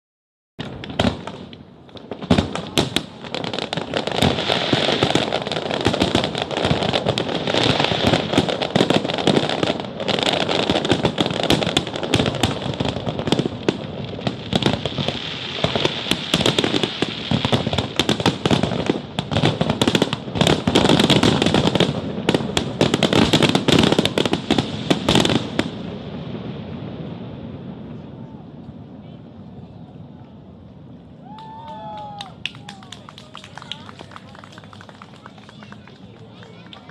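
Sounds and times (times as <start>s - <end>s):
fireworks bangs and crackling: 0.6s - 36.9s.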